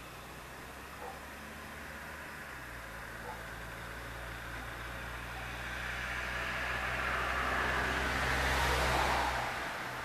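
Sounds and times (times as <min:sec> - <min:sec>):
car passing by: 0:01.0 - 0:10.0.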